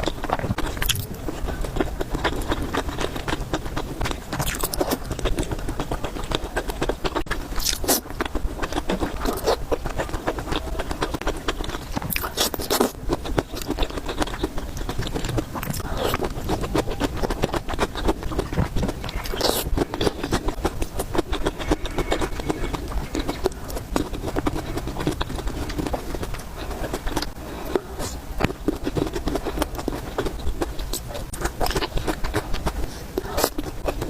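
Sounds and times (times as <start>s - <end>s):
person chewing noodles: 0.0s - 34.0s
sharp eating strokes: 0.0s - 34.0s.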